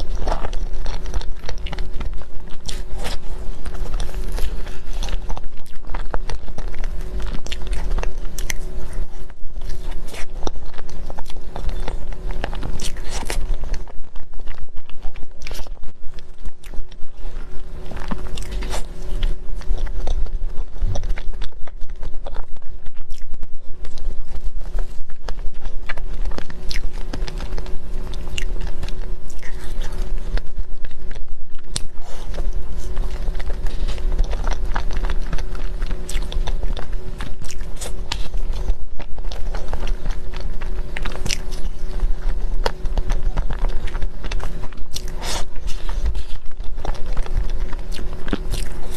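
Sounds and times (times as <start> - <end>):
biting and chewing: 0.0 - 48.9
steady low hum: 0.0 - 48.9.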